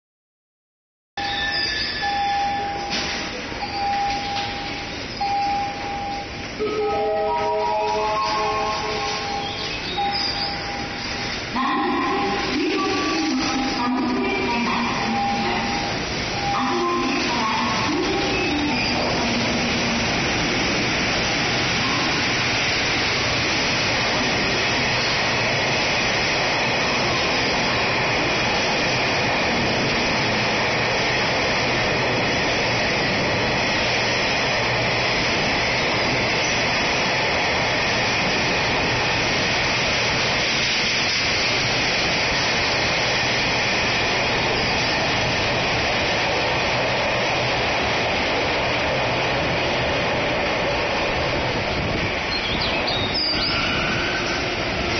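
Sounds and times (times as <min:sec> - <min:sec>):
train wheels rumbling on rails: 0:01.2 - 0:54.9.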